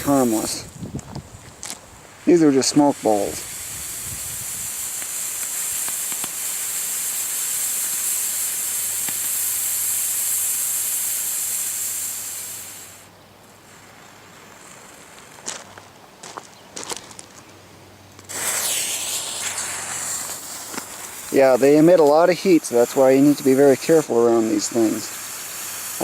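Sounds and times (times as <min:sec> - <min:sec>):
smoke firework hissing: 0:00.0 - 0:15.8, 0:18.3 - 0:26.0.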